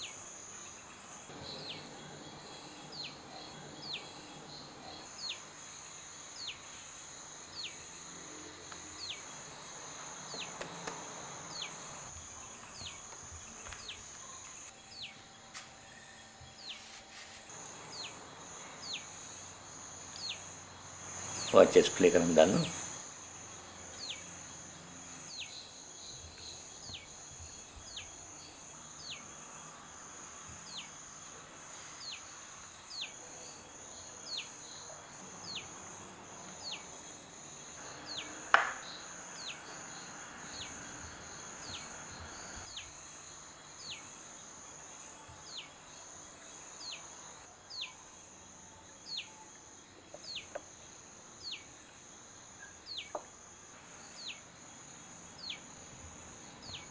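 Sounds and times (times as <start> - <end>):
crickets trilling: 0.0 - 15.4, 17.5 - 56.9.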